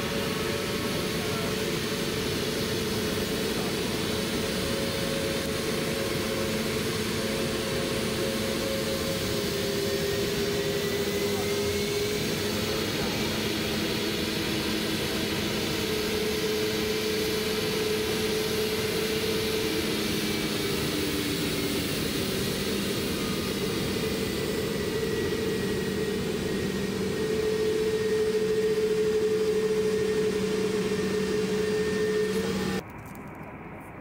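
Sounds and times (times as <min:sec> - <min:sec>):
jet engines idling whine: 0:00.0 - 0:34.0.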